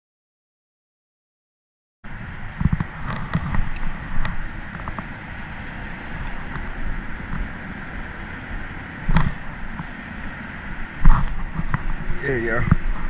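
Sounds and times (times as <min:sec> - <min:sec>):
low outdoor rumble: 0:02.0 - 0:13.0.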